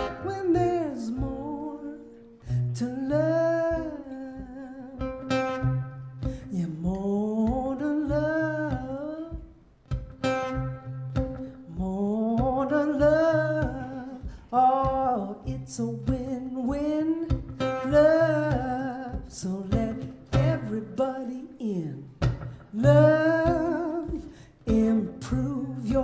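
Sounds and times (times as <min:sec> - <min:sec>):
woman singing: 0:00.0 - 0:05.4, 0:06.4 - 0:09.6, 0:11.7 - 0:26.0
acoustic guitar strumming: 0:00.0 - 0:26.0.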